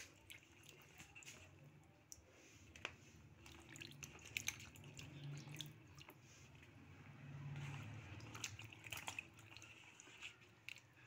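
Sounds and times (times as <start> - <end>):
water sloshing in basin: 0.0 - 11.0.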